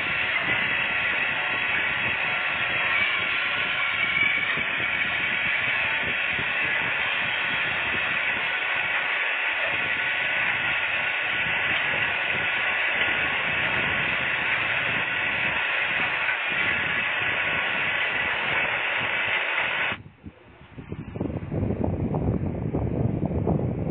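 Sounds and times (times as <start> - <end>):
wind on microphone: 0.0 - 23.9.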